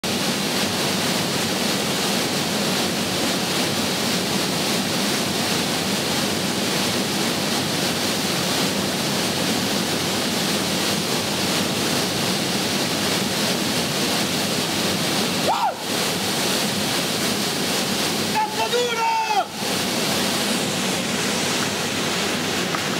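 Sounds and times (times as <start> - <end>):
water rushing over a weir: 0.0 - 22.9.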